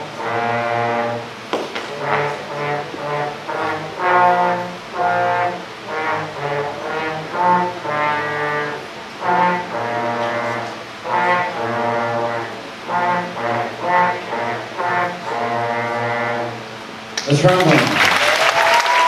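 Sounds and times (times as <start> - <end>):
trombones playing a tune: 0.0 - 17.1.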